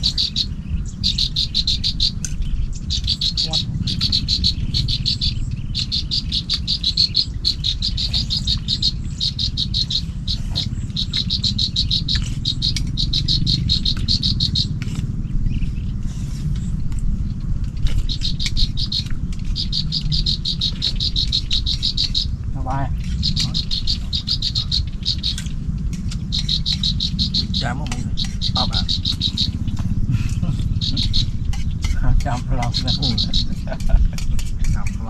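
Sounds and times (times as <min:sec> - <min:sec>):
insects chirping in a pulsing trill: 0:00.0 - 0:35.0
steady low rumble: 0:00.0 - 0:35.0.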